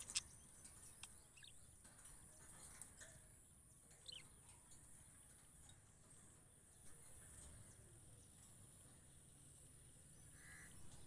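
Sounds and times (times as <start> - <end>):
steady high-pitched hiss: 0.0 - 11.0.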